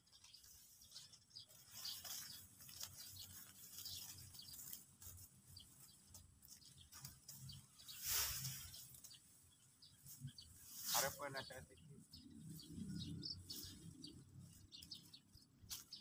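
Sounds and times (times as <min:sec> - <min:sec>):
dry straw rustling and crackling: 0:00.0 - 0:16.0.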